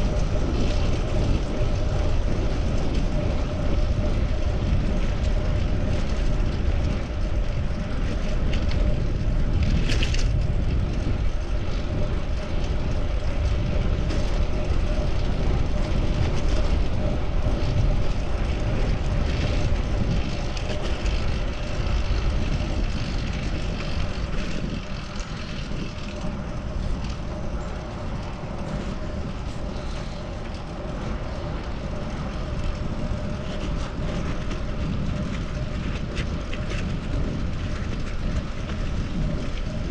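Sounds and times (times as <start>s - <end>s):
steady hum: 0.0s - 39.9s
wind buffeting microphone: 0.0s - 39.9s.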